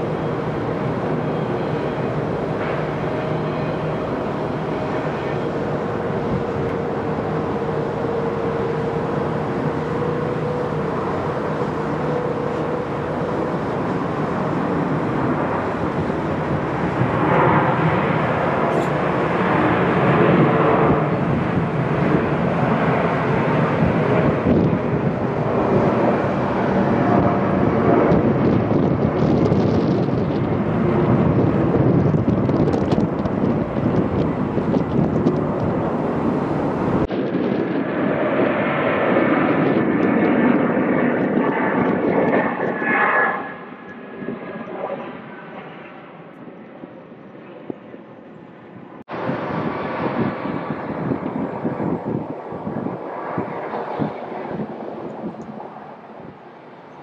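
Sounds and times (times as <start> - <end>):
jet airliner taking off: 0.0 - 57.0
jet engine whining tone: 0.0 - 57.0.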